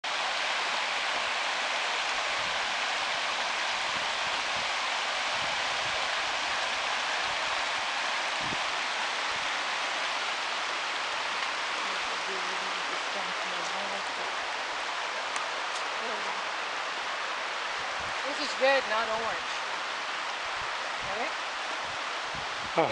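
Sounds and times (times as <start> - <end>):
creek rushing over rocks: 0.0 - 22.9.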